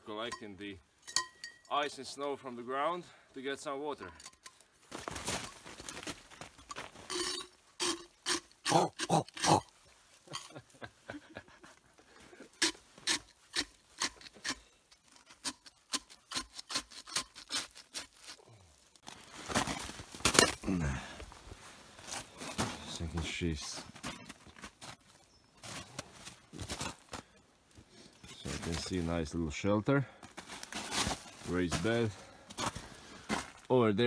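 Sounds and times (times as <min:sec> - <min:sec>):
ice and snow crunching: 0:04.8 - 0:10.8, 0:12.1 - 0:29.5, 0:30.1 - 0:34.0.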